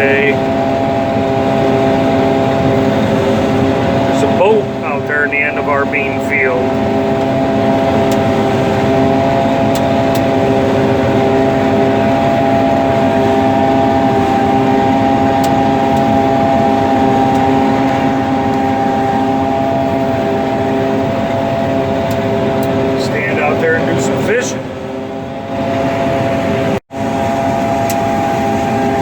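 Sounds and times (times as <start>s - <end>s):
combine harvester drone: 0.0s - 29.0s.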